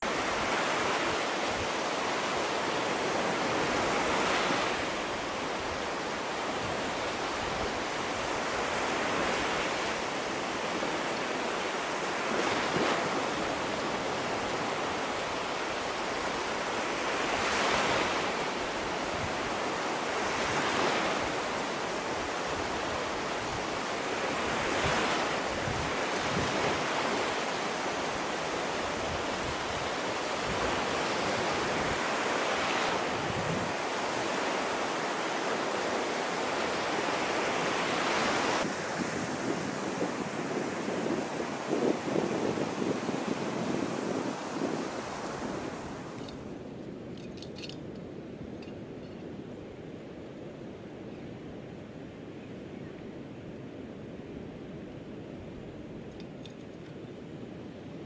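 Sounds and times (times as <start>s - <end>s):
ocean surf breaking on beach: 0.0s - 47.2s.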